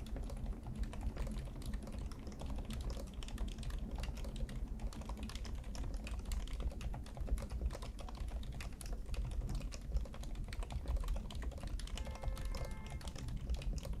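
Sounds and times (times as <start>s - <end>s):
fast typing on mechanical keyboard: 0.0s - 14.0s.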